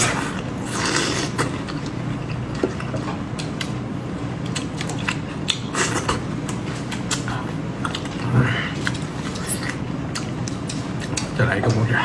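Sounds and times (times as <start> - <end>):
person chewing grapes: 0.0 - 11.4.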